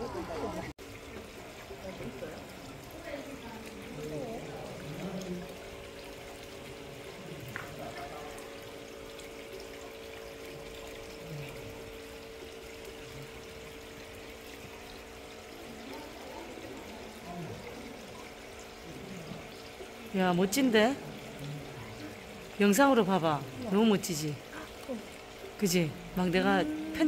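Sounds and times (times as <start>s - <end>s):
faint steady hum: 0.0s - 27.0s
water trickling into pond: 0.0s - 27.0s.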